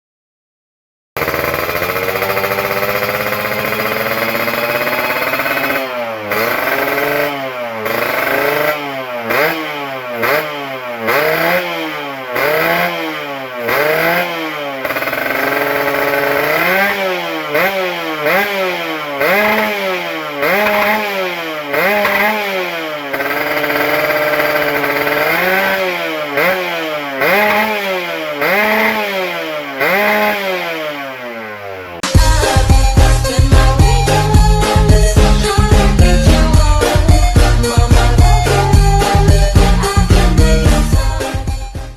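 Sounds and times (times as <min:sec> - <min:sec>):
two-stroke motorcycle engine revving: 0:01.2 - 0:41.8.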